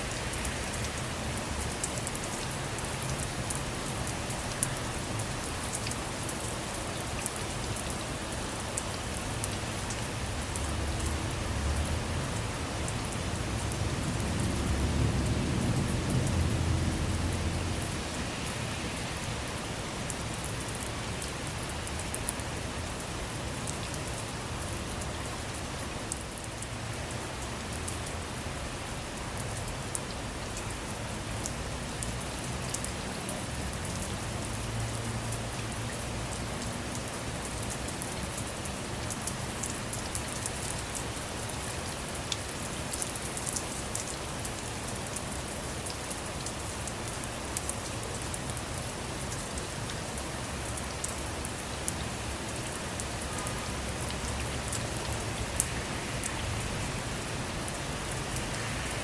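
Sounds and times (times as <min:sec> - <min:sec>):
rain falling on a car: 0:00.0 - 0:59.0.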